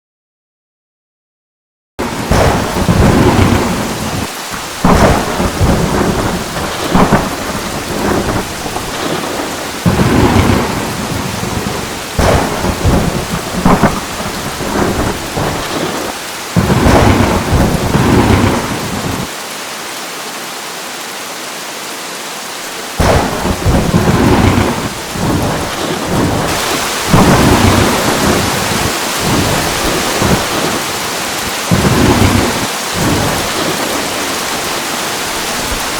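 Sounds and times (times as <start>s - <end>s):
thunder rolling and cracking: 2.0s - 19.3s, 23.0s - 35.9s
steady rain: 2.0s - 35.9s.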